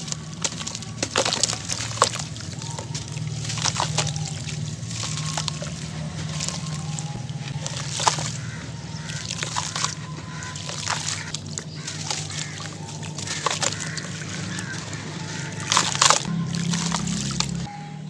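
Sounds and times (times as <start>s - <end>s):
crumbling grit pattering: 0.0s - 17.7s
water sloshing and splashing: 0.0s - 17.7s.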